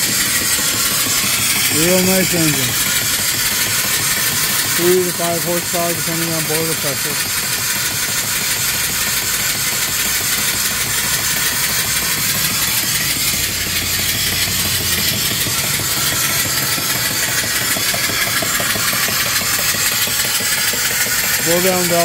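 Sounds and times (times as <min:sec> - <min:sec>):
steam engine running: 0:00.0 - 0:22.0
steam hissing: 0:00.0 - 0:22.0.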